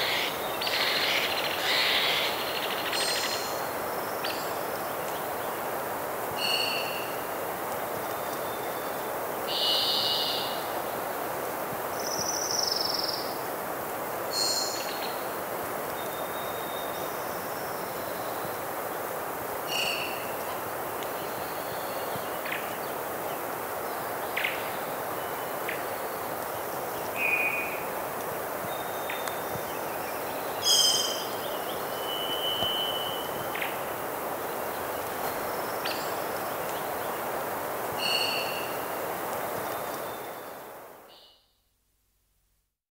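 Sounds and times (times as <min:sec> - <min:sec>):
wind: 0:00.0 - 0:42.8.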